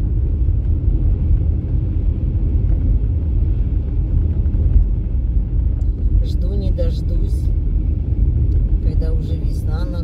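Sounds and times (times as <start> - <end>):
car cabin rumble at speed: 0.0 - 10.0.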